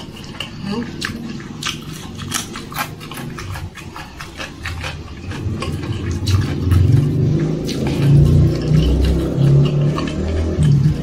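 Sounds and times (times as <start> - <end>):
low droning hum: 0.0 - 11.0
wet chewing and lip smacks: 0.0 - 11.0.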